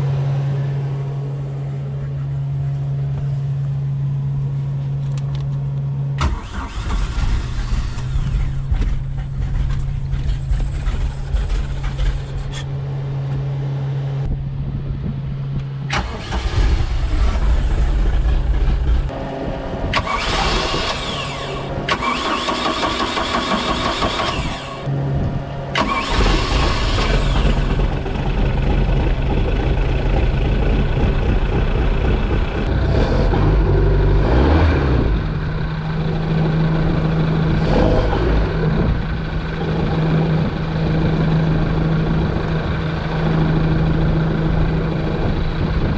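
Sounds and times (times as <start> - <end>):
boat engine starting and idling: 6.1 - 13.0, 15.9 - 45.9.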